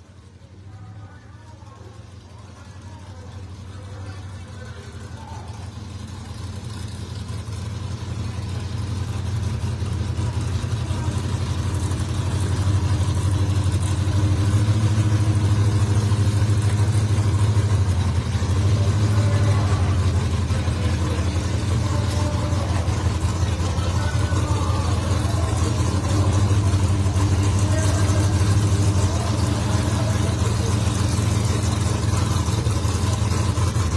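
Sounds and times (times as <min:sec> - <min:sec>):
supercharged drag car engine running: 0:00.0 - 0:33.9.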